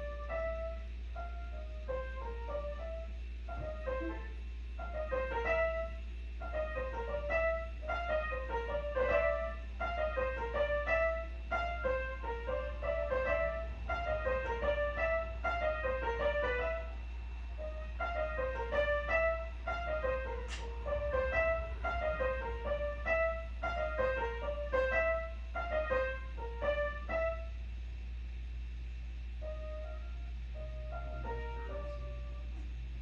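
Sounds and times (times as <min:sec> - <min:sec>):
piano melody: 0:00.0 - 0:27.6, 0:29.4 - 0:32.8
steady low hum: 0:00.0 - 0:33.0.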